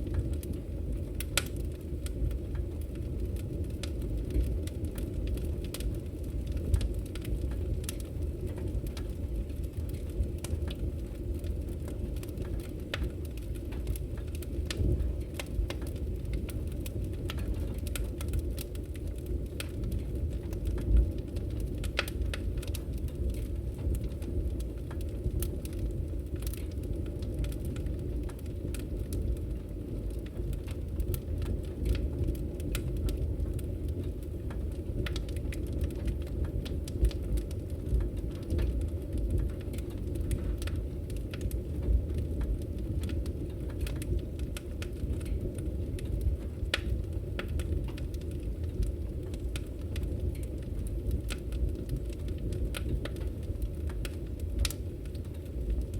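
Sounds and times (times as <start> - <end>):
fire crackling and popping: 0.0 - 55.9
fire rumbling: 0.0 - 55.9.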